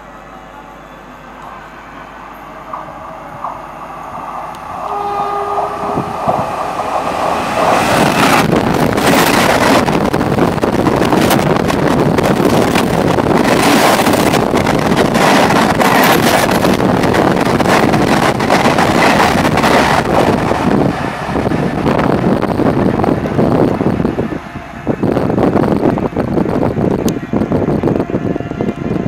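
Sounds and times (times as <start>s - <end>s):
passenger train rushing past: 0.0s - 29.0s
wind buffeting microphone: 2.7s - 29.0s.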